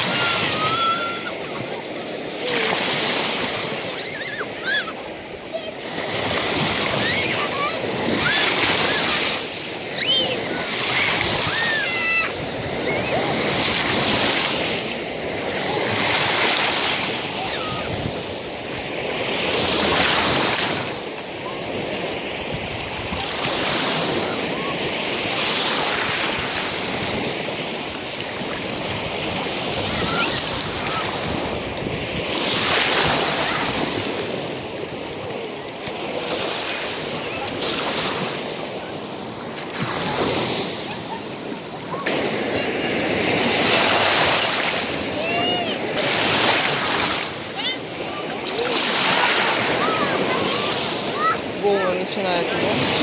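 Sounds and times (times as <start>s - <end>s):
waves breaking on beach: 0.0s - 53.0s.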